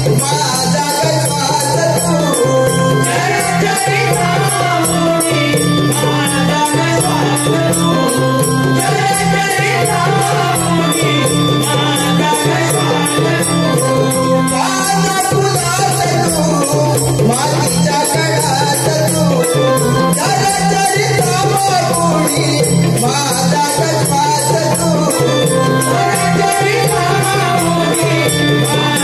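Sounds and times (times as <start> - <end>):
drums: 0.0 - 29.0
man singing devotional song: 0.0 - 29.0.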